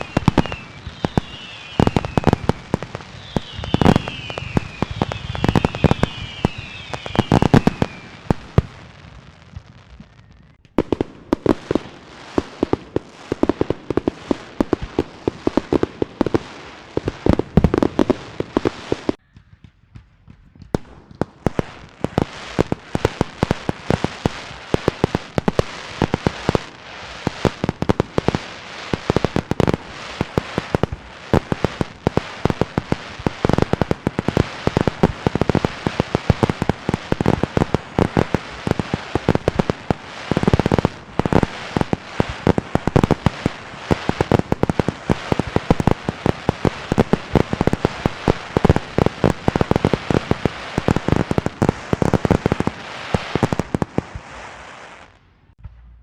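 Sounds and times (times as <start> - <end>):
whistling fireworks: 0.0 - 55.6
firecrackers banging: 0.0 - 56.0.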